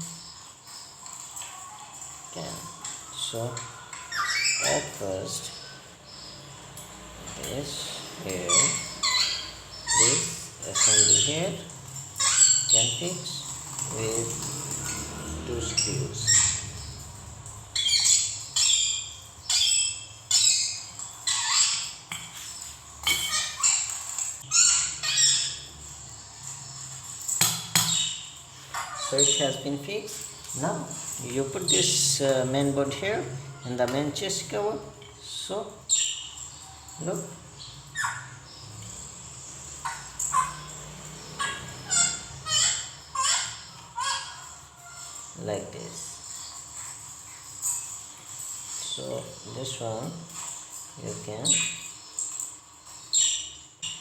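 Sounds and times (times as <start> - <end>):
bird squawking: 0.0 - 6.5, 7.4 - 25.9, 27.7 - 38.7, 39.7 - 48.0.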